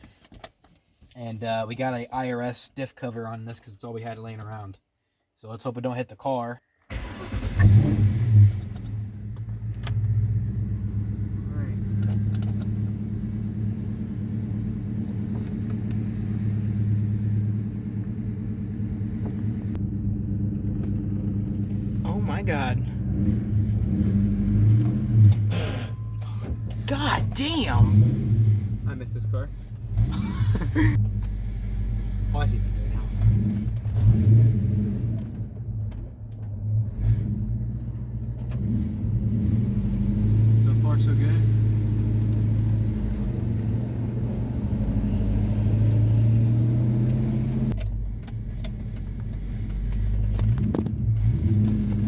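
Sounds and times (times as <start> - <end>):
car engine low rumble: 6.9 - 52.0.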